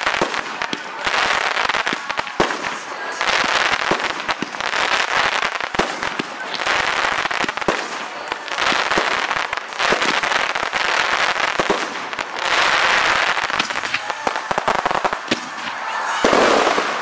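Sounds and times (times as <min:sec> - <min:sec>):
fireworks bangs and pops: 0:00.0 - 0:17.0
fireworks crackling: 0:00.0 - 0:17.0.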